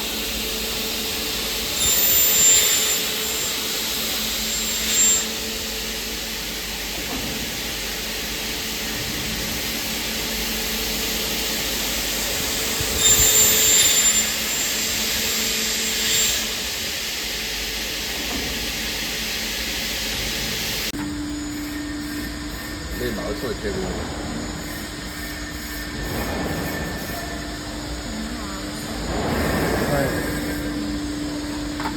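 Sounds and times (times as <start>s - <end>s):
machine whirring and humming: 0.0s - 31.9s.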